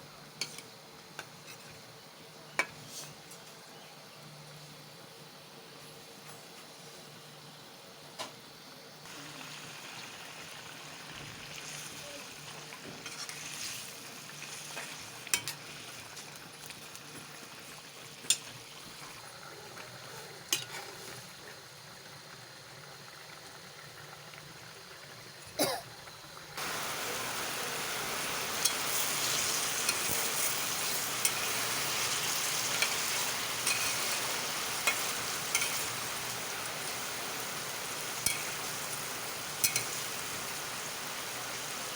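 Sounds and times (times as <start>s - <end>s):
food sizzling in oil: 0.2s - 1.8s, 9.0s - 41.9s.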